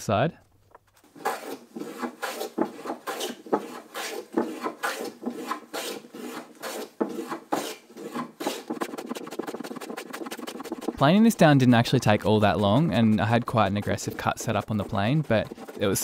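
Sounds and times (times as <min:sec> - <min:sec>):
hand plane rasping strokes: 0:01.2 - 0:16.0.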